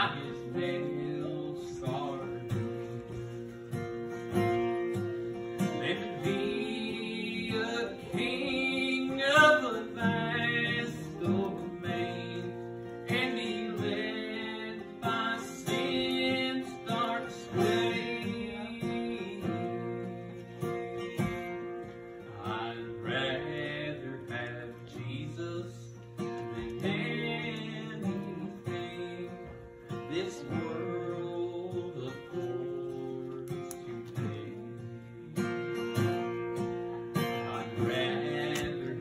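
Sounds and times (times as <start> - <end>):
man singing a hymn: 0.0 - 3.4, 4.4 - 36.0, 37.2 - 39.0
strummed acoustic guitar: 0.0 - 39.0.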